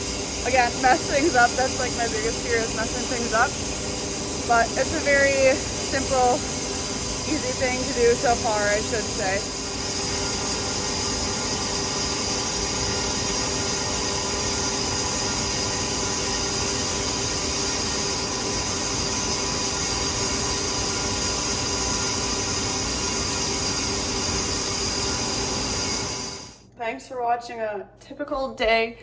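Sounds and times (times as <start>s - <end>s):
grain-handling equipment running: 0.0s - 26.6s.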